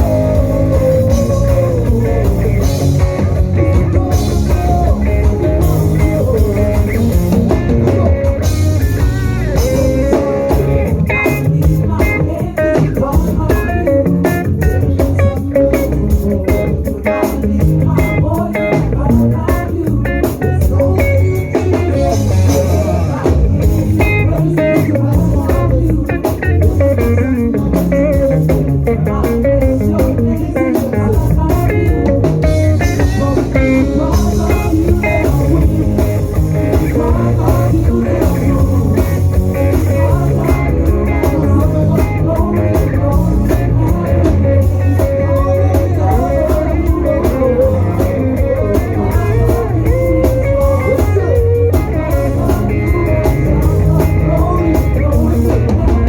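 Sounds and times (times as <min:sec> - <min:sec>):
bass guitar: 0:00.0 - 0:56.0
drum kit: 0:00.0 - 0:56.0
electric guitar lines: 0:00.0 - 0:56.0.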